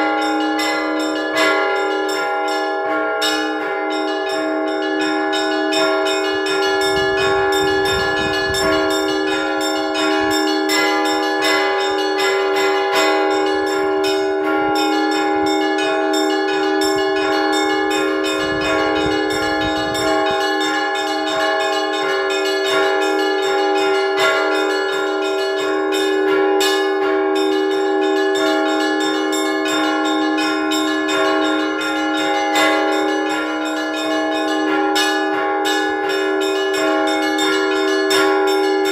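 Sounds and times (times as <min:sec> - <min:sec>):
large bells ringing: 0:00.0 - 0:38.9
small church bells pealing: 0:00.0 - 0:38.9.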